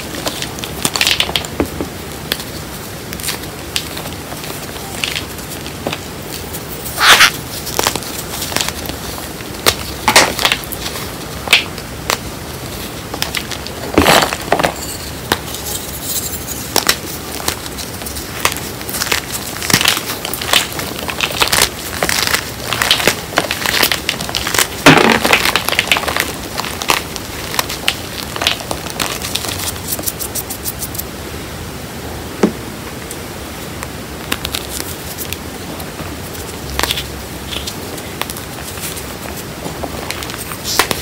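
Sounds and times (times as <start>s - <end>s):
hands crushing chalk: 0.0s - 31.1s, 36.2s - 41.0s.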